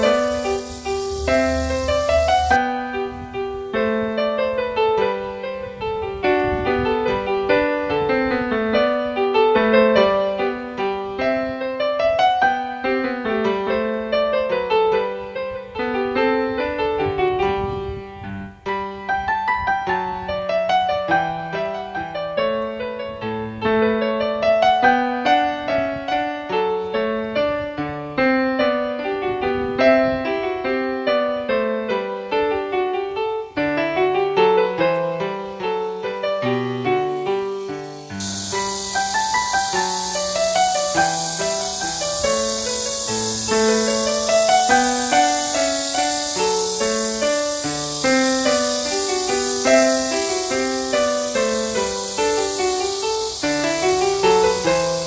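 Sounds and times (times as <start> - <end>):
gentle arpeggiated piano music: 0.0 - 55.0.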